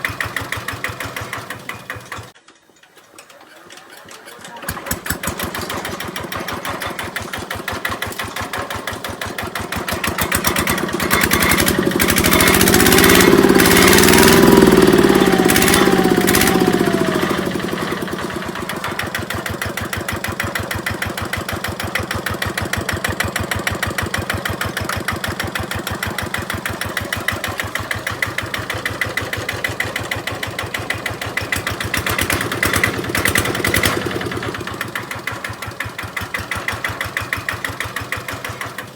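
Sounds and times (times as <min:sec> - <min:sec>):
diesel engine chugging and revving: 0:00.0 - 0:02.4, 0:04.4 - 0:38.9.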